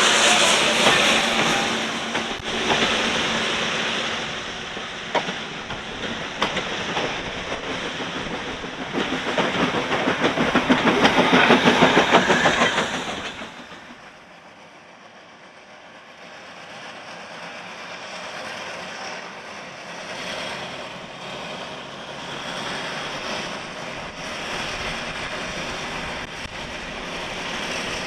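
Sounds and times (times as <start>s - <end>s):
train approaching: 0.0s - 28.0s.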